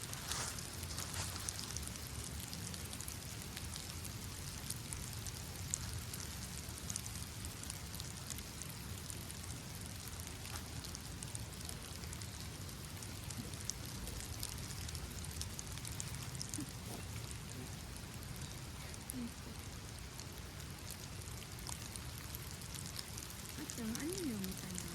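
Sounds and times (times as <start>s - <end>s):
steady rain with drops tapping: 0.0s - 24.9s.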